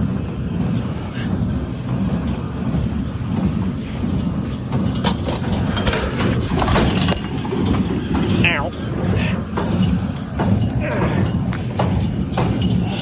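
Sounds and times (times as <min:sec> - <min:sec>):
farm machinery engine rumble: 0:00.0 - 0:13.0.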